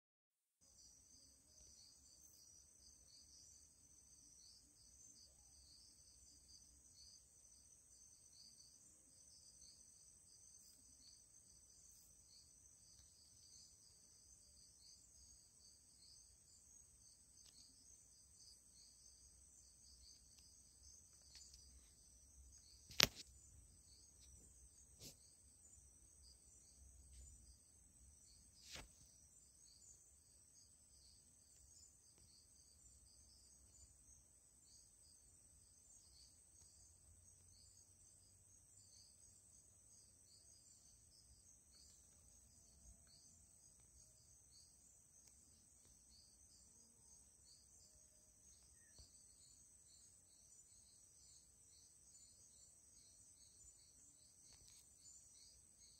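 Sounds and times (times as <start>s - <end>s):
high-pitched insect chorus: 0.7s - 55.9s.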